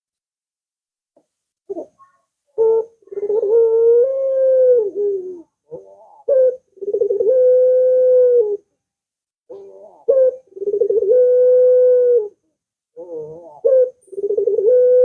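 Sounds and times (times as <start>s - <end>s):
dove cooing: 1.7s - 8.7s, 9.5s - 15.0s.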